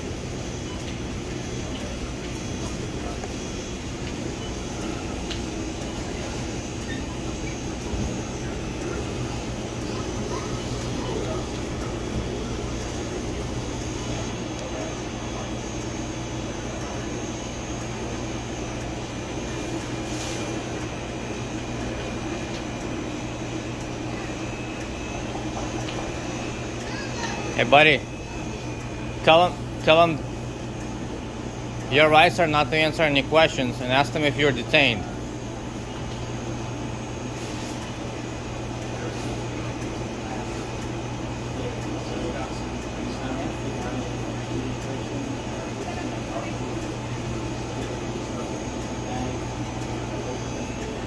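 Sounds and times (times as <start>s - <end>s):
low mechanical hum: 0.0s - 51.0s.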